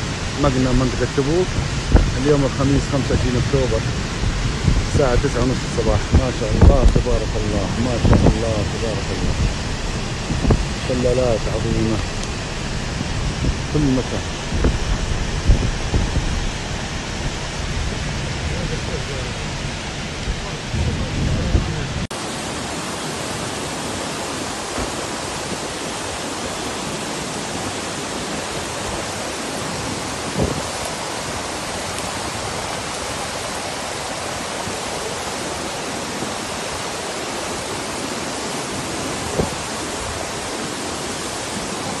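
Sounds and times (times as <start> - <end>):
water cascading down rock: 0.0 - 42.0.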